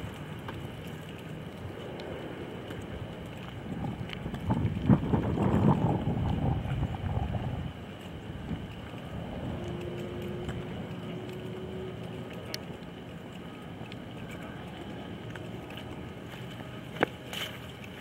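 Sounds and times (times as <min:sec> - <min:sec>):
faint held hum: 0:00.0 - 0:18.0
outdoor background noise: 0:00.0 - 0:18.0.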